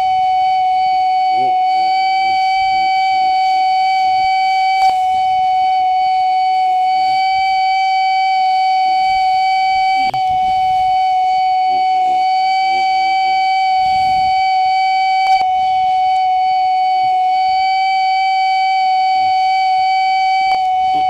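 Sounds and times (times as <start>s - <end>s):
parking sensor buzzer steady tone: 0.0s - 21.0s.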